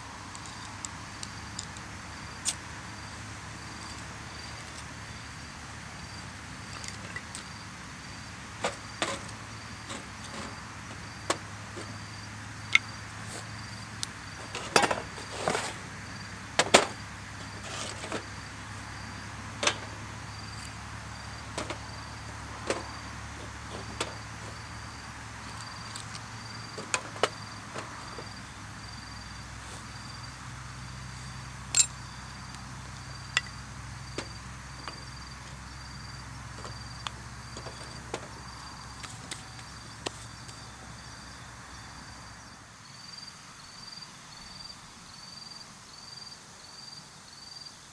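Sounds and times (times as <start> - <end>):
insect chirping: 0.0 - 47.9.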